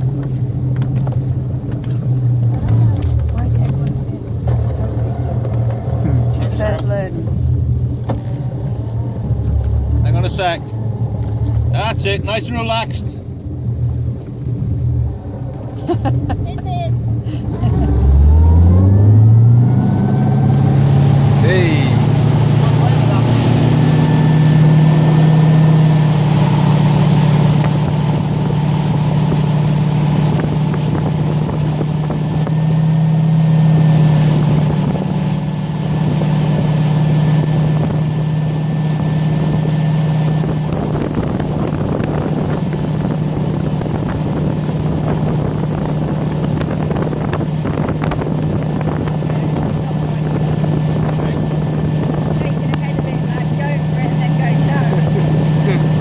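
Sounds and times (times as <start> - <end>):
boat engine humming: 0.0 - 56.0
water noise: 0.0 - 56.0
wind: 0.0 - 56.0.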